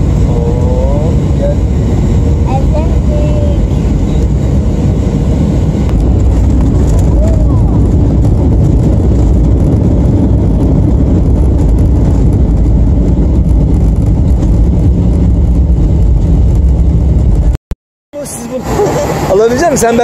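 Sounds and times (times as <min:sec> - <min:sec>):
jet engine rumble in cabin: 0:00.0 - 0:17.6
rushing air: 0:00.0 - 0:17.6, 0:18.2 - 0:20.0.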